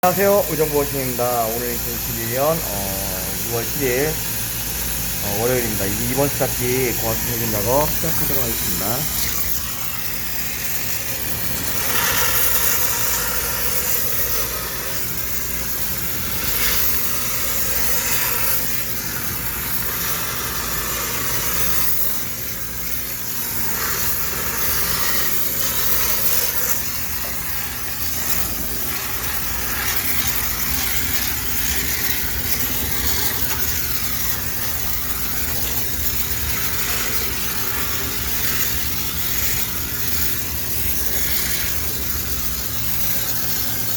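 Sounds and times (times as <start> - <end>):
steam cleaner motor hum: 0.0 - 43.9
steam jet hissing: 0.0 - 43.9.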